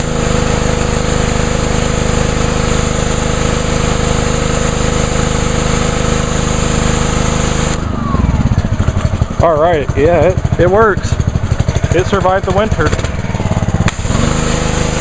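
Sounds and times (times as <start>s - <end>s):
high-pressure water jet hissing: 0.0s - 7.9s, 10.6s - 15.0s
engine hum: 0.0s - 15.0s.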